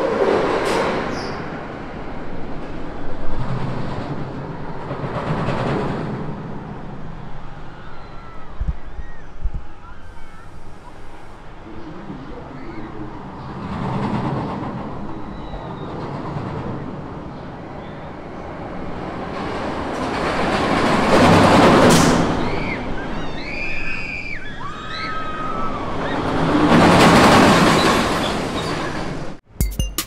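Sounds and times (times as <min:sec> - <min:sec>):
ride car rumbling on rails: 0:00.0 - 0:29.4.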